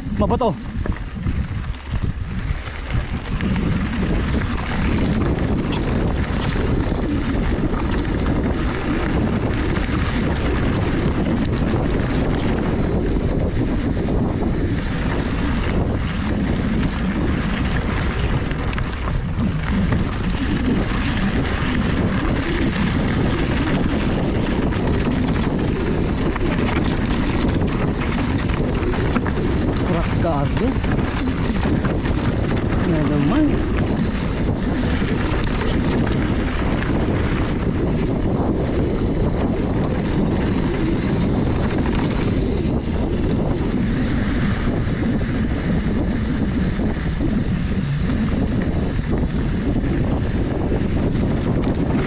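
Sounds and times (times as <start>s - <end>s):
bike tyres rumbling on dirt: 0.0s - 52.0s
wind buffeting microphone: 0.0s - 52.0s.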